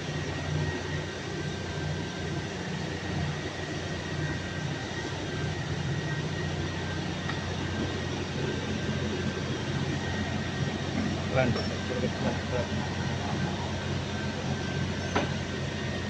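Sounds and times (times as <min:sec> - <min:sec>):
faint high whine: 0:00.0 - 0:16.0
machinery humming: 0:00.0 - 0:16.0.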